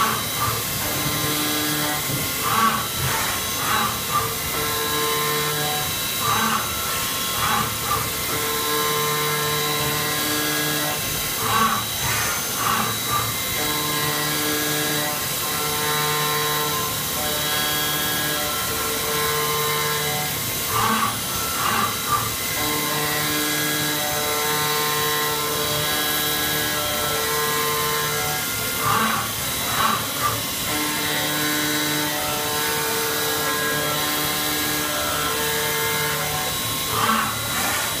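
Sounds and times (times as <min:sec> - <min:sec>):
milling machine hum: 0:00.0 - 0:38.0.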